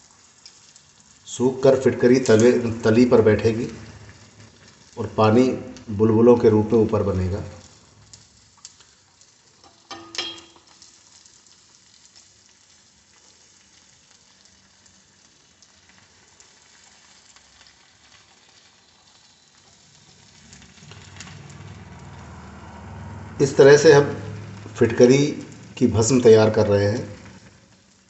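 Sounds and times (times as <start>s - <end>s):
alum sizzling and bubbling in pan: 0.0s - 28.0s.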